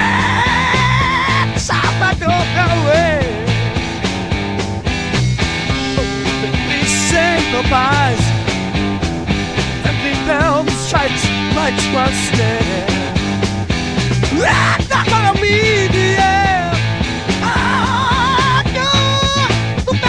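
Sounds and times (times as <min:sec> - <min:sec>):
bass and drums: 0:00.0 - 0:20.0
electric guitar lead with bending notes: 0:00.0 - 0:20.0
psychedelic rock music: 0:00.0 - 0:20.0.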